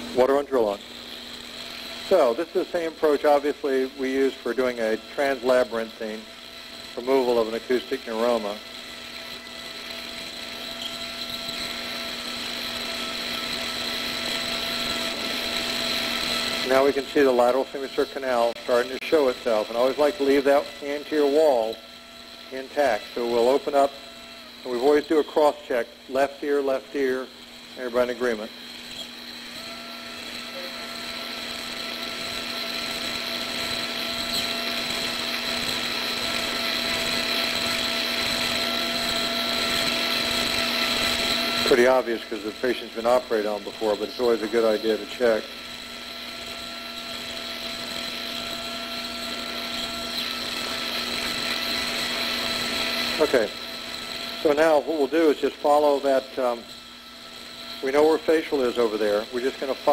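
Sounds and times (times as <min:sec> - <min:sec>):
surgical drill whining: 0:00.0 - 0:59.9.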